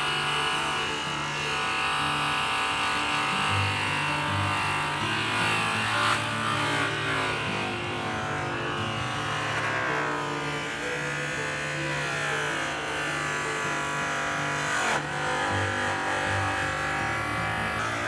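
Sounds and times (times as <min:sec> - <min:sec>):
angle grinder motor whine: 0:00.0 - 0:18.0
background music: 0:01.8 - 0:18.0.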